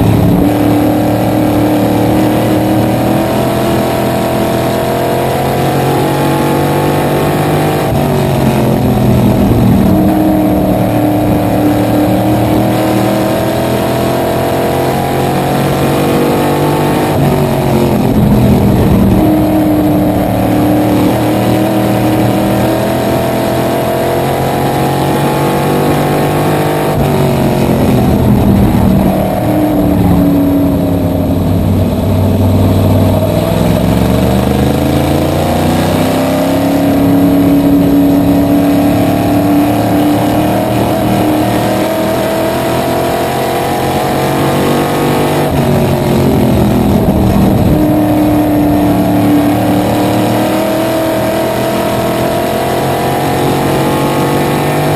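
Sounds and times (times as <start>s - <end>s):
race car engine at speed: 0.0s - 54.9s.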